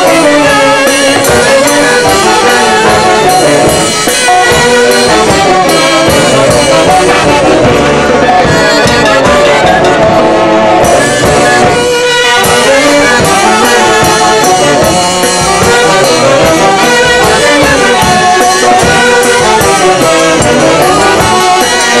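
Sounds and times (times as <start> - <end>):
saxophone-led brass band: 0.0 - 22.0.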